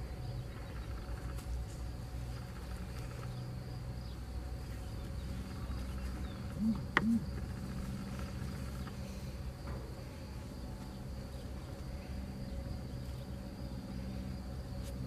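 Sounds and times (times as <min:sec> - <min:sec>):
flies buzzing: 0:00.0 - 0:15.0.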